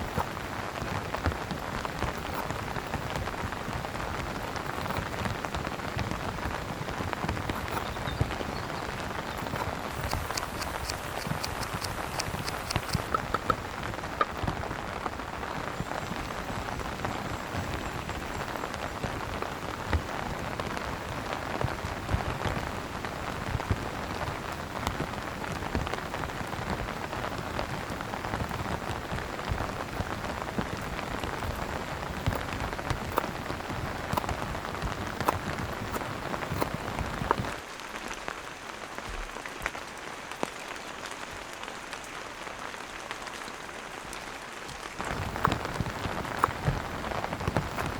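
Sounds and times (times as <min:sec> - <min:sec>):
rain pattering on tent awning: 0:00.0 - 0:47.9.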